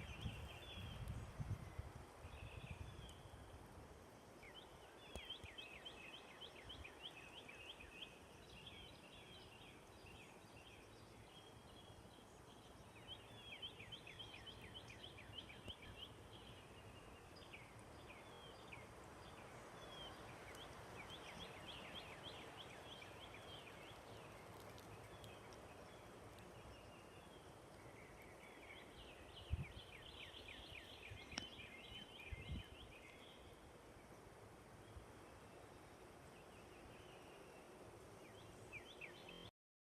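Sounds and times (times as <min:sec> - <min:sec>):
small birds chirping: 0:00.0 - 0:39.5.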